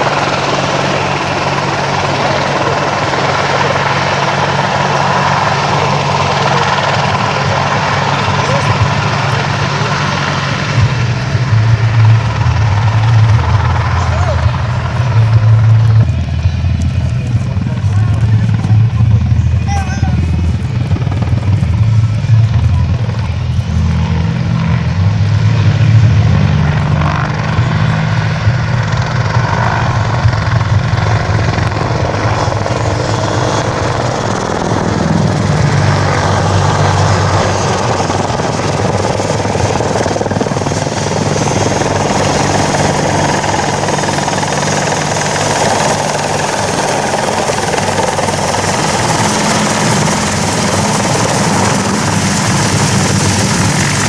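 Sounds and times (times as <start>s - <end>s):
helicopter engine rush and whine: 0.0s - 54.0s
helicopter rotor throb: 0.0s - 54.0s.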